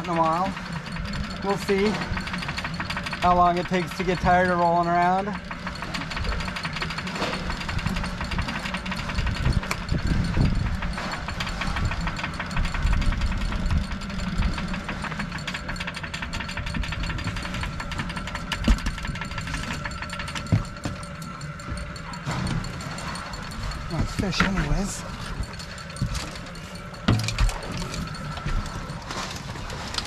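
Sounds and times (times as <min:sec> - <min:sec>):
boat engine idling: 0:00.0 - 0:30.0
fast mechanical ticking: 0:00.0 - 0:30.0.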